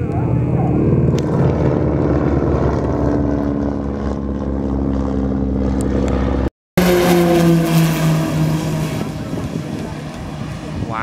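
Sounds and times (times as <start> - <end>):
biplane engine flying past: 0.0 - 11.0
second aircraft engine: 0.0 - 11.0.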